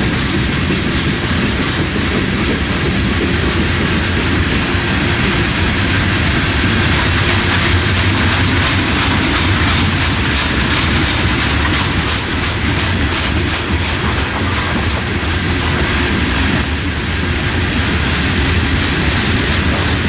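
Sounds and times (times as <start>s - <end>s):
freight train wheels rumbling: 0.0s - 20.0s
wheels clicking over rail joints: 0.0s - 20.0s.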